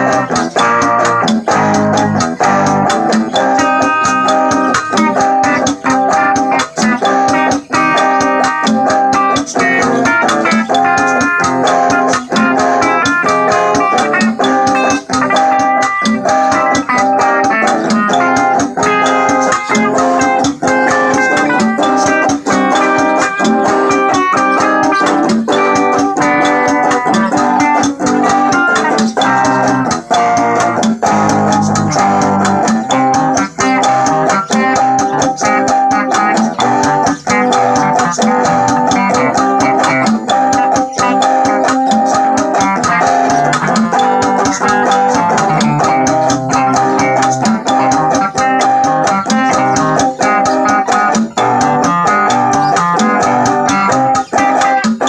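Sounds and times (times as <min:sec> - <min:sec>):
bass and beat accompaniment: 0:00.0 - 0:55.0
electric guitar melody: 0:00.0 - 0:55.0.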